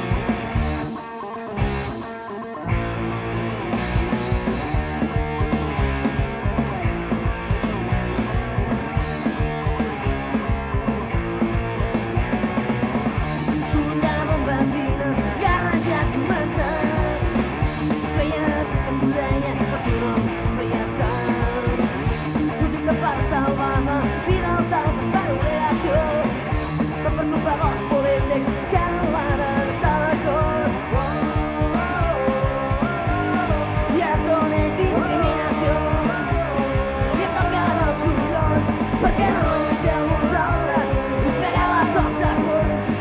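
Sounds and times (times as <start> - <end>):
rock band music: 0.0 - 43.0.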